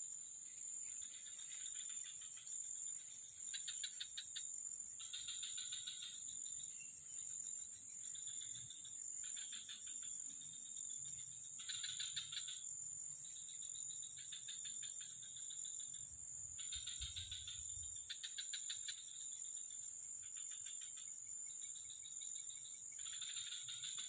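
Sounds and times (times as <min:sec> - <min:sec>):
insects droning: 0:00.0 - 0:24.0
rapid pulsing insect chirps: 0:00.0 - 0:24.0.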